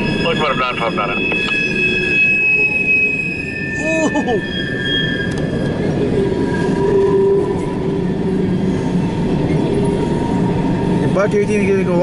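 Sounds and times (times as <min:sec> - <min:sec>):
wheels squealing on curve: 0:00.0 - 0:10.6
freight train wheels rumbling: 0:00.0 - 0:12.0.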